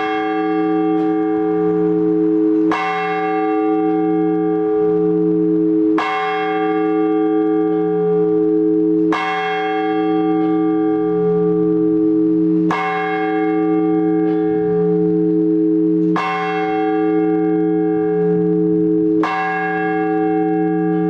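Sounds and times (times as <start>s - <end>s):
church bell ringing: 0.0s - 21.0s.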